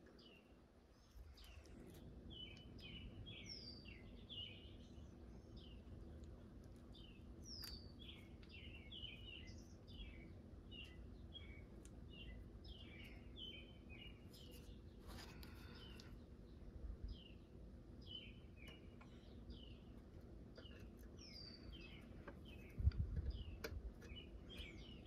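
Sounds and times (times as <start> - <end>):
faint bird chirping: 0.0 - 25.0
low steady hum: 0.0 - 25.0.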